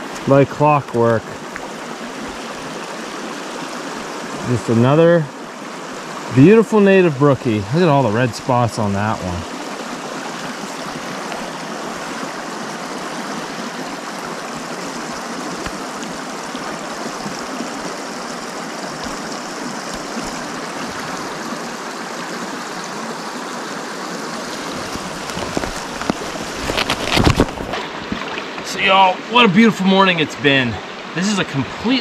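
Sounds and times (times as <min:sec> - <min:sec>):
water rushing over stones: 0:00.0 - 0:32.0.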